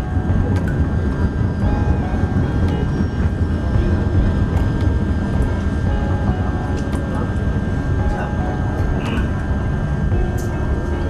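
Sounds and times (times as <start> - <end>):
train carriage rumbling on rails: 0.0 - 11.0.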